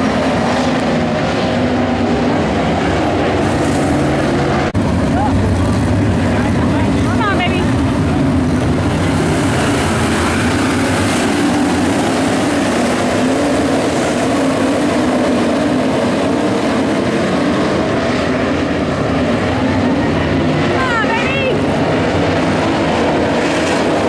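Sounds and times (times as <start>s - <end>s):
race car engines roaring: 0.0s - 24.0s.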